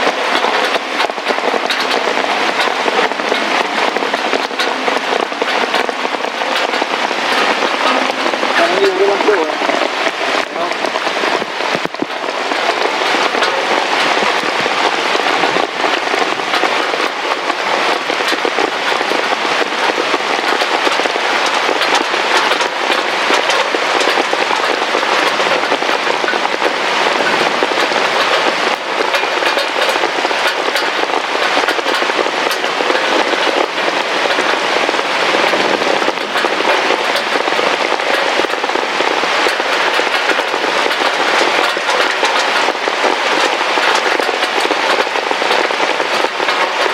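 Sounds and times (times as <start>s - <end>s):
heavy rain on hard surface: 0.0s - 46.9s.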